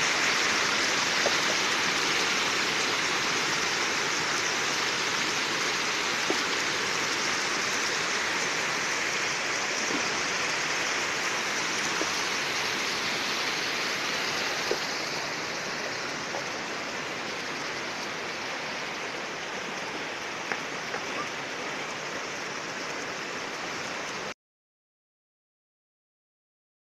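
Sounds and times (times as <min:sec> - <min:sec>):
river water rushing and splashing: 0:00.0 - 0:24.3.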